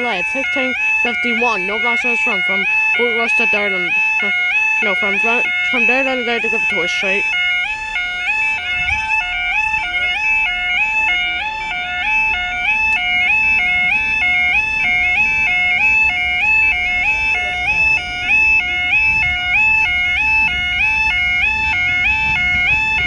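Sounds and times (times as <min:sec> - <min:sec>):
two-tone crossing alarm: 0:00.0 - 0:23.0.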